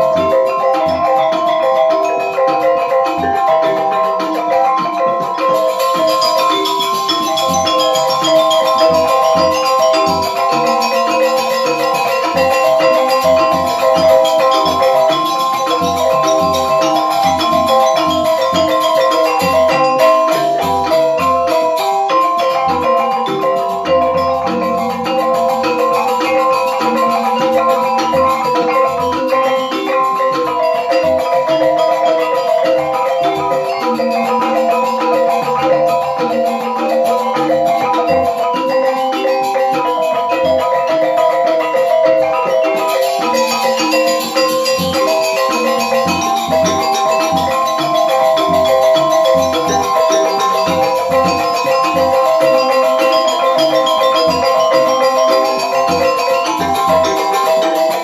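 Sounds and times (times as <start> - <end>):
bamboo flutes: 0.0 - 58.0
metallophones ringing: 0.0 - 58.0.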